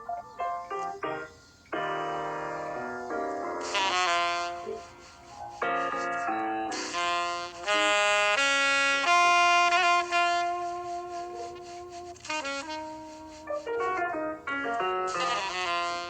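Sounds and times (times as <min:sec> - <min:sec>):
slow jazz solo melody: 0:00.0 - 0:16.0.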